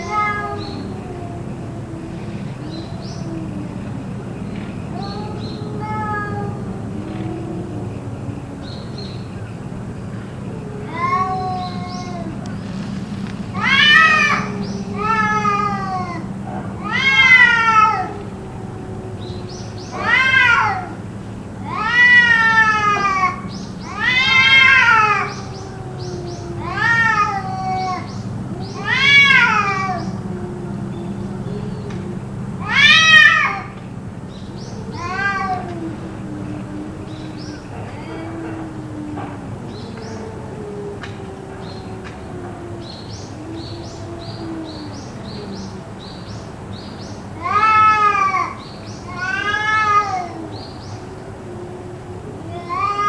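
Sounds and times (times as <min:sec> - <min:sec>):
cats yowling: 0:00.0 - 0:53.0
low wavering moan: 0:00.0 - 0:53.0.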